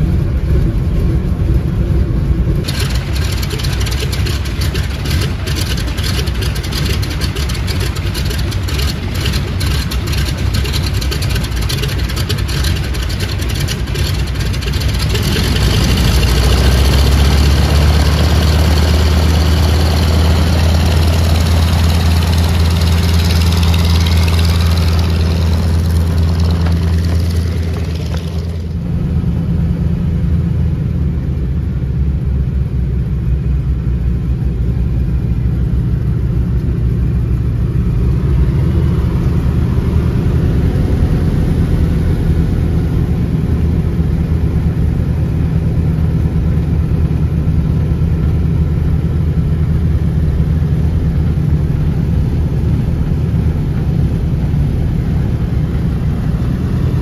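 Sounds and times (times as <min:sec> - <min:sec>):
radial aircraft engines running: 0:00.0 - 0:57.0.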